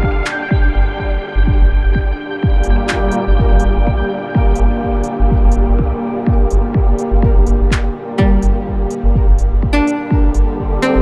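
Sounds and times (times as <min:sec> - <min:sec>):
electronic music: 0:00.0 - 0:11.0
kick drum beat: 0:00.0 - 0:11.0.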